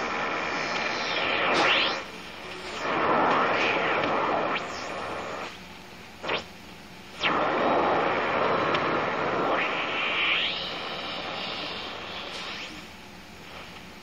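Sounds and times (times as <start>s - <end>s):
radio tuning sweep: 0.0s - 13.7s
radio static and hiss: 0.0s - 14.0s.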